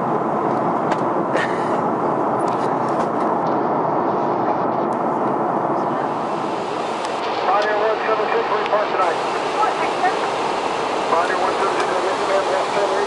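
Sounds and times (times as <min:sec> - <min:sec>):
airflow and engine noise: 0:00.0 - 0:13.0.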